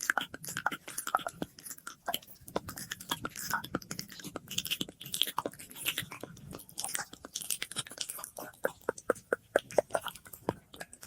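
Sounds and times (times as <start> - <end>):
wet mouth clicks and smacks: 0.0 - 11.0.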